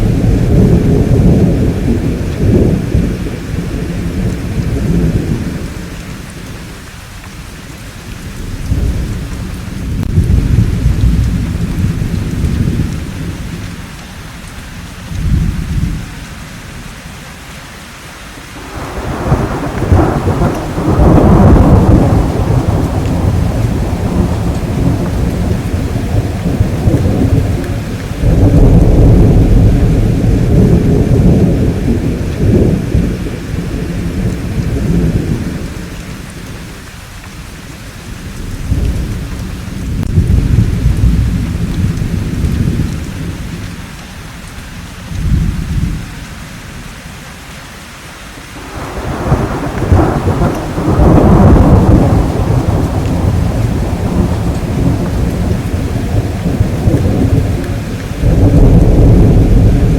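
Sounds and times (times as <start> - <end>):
rolling thunder: 0.0 - 6.6, 8.2 - 13.9, 18.6 - 36.8, 38.1 - 43.8, 45.1 - 46.1, 48.6 - 59.9
steady rainfall: 0.0 - 59.9.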